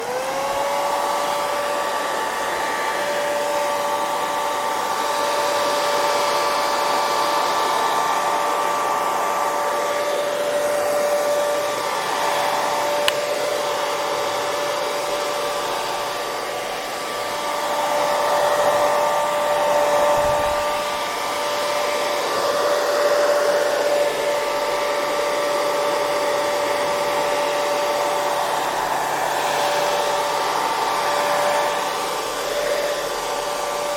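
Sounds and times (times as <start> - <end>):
hair dryer running: 0.0 - 33.9.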